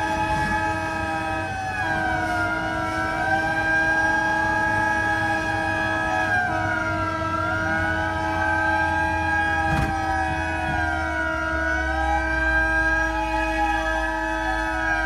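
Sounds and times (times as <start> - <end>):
emergency vehicle sirens: 0.0 - 15.0.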